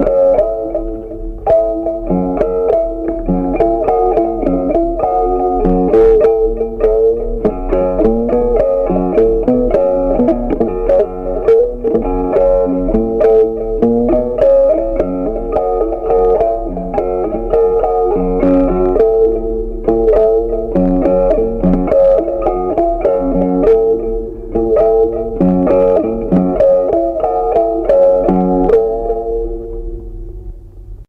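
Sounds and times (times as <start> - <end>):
plucked instrumental melody: 0.0 - 31.0.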